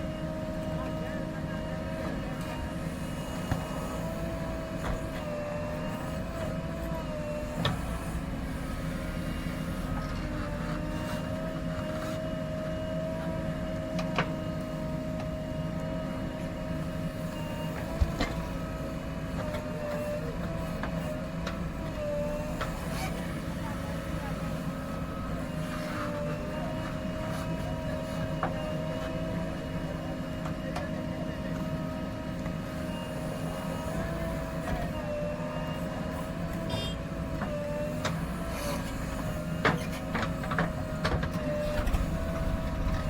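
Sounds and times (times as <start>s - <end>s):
diesel engine running: 0.0s - 43.0s
engine whine: 0.0s - 43.0s.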